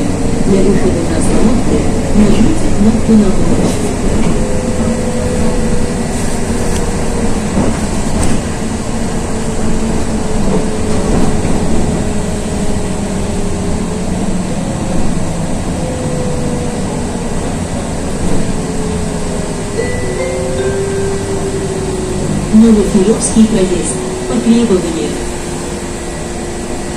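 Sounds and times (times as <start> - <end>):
bus engine drone: 0.0 - 26.9
road rumble: 0.0 - 26.9.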